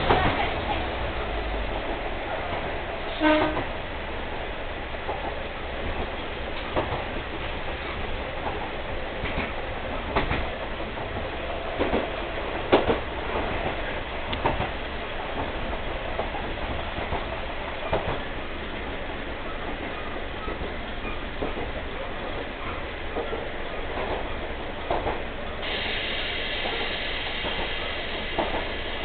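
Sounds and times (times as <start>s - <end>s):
diesel railcar low rumble: 0.0s - 29.0s.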